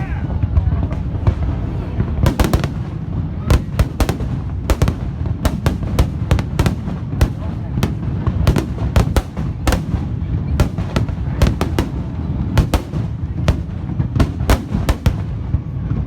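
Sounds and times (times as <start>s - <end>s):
fireworks bangs and cracks: 0.0s - 16.0s
low rumble of distant bursts: 0.0s - 16.0s.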